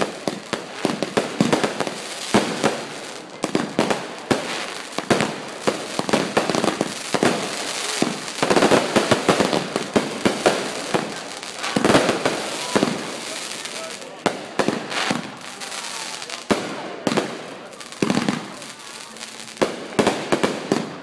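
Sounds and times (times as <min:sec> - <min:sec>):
fireworks popping and banging: 0:00.0 - 0:21.0.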